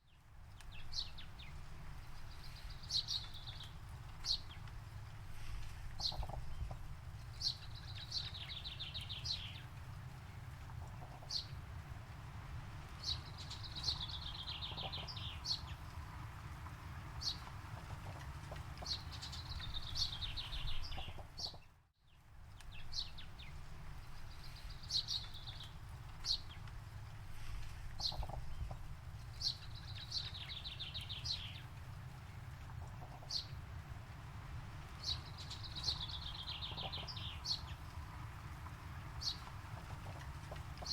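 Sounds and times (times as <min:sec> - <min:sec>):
songbird singing with falling trill: 0:00.0 - 0:04.7, 0:06.0 - 0:11.6, 0:12.9 - 0:21.7, 0:22.5 - 0:26.7, 0:28.0 - 0:32.4, 0:34.8 - 0:40.9
steady low rumble: 0:00.1 - 0:21.6, 0:22.2 - 0:40.9.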